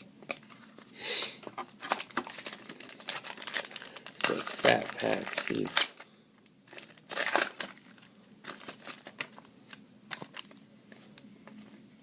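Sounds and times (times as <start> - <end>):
trading cards rustling: 0.3 - 6.1, 6.7 - 11.2.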